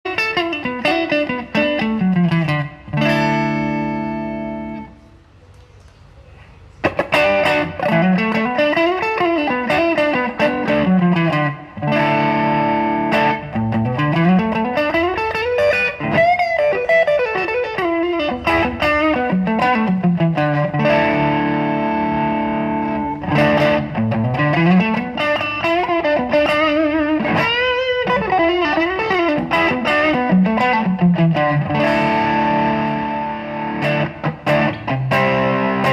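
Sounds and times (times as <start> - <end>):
distorted electric guitar: 0.0 - 5.0, 6.8 - 35.9.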